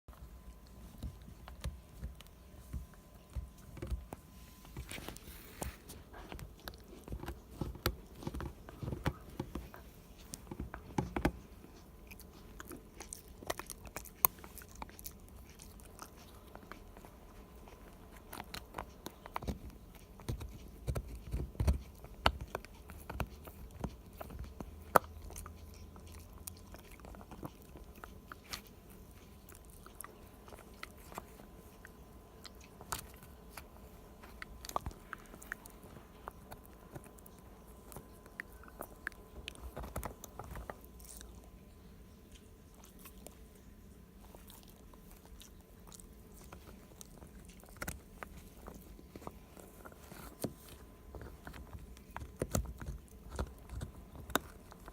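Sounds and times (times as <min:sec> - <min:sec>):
dog gnawing a hard chew: 0:05.6 - 0:54.9.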